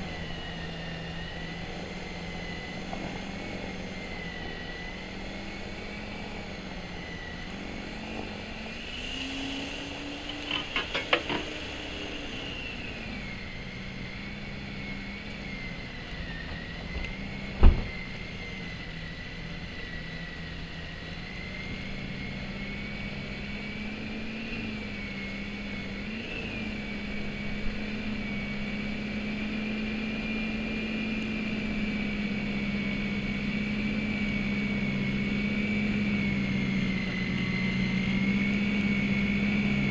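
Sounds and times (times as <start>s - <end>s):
electric snow thrower motor whine: 0.0s - 39.9s.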